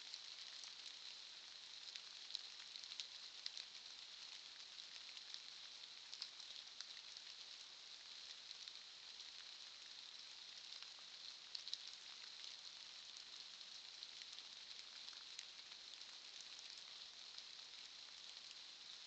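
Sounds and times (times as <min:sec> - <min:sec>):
faint microphone hiss: 0:00.0 - 0:19.0
faint ticks: 0:00.0 - 0:19.0.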